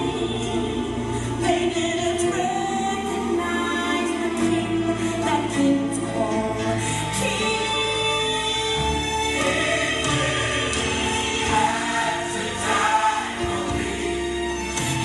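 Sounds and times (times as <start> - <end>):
choir singing gospel music: 0.0 - 15.0.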